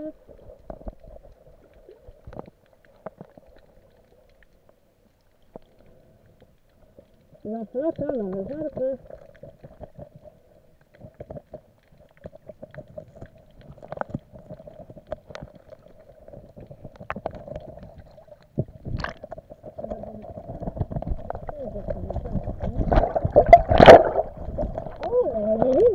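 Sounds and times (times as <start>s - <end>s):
underwater hum: 0.0s - 25.9s
small underwater clicks and knocks: 0.2s - 25.9s.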